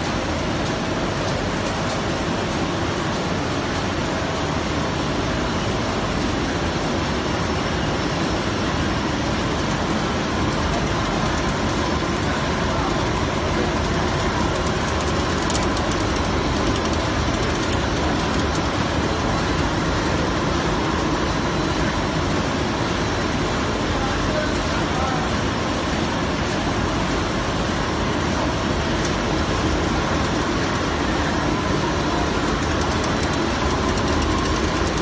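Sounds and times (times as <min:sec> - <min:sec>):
laminating machine running: 0:00.0 - 0:35.0.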